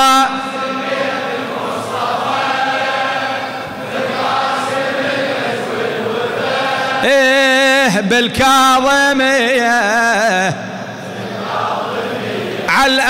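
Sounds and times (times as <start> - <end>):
crowd chanting: 0.0 - 8.0, 10.2 - 13.0.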